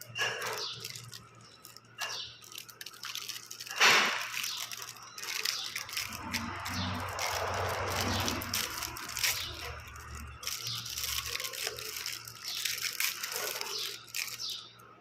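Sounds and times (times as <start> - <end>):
packet being torn and crinkled: 0.0 - 14.9.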